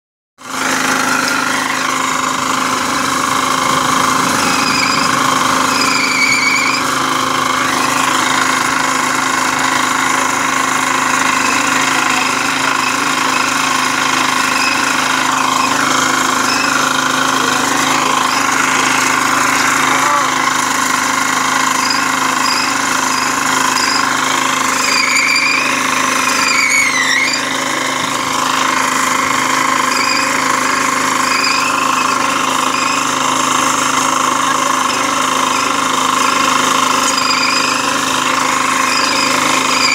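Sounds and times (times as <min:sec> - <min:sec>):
cutting saw engine running: 0:00.4 - 0:39.9
disc grinding through steel: 0:00.4 - 0:39.9.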